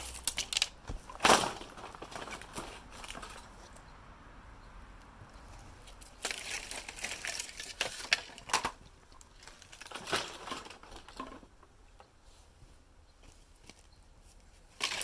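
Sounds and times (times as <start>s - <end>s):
dry bamboo crunching and rustling: 0.0s - 3.9s, 5.3s - 15.0s.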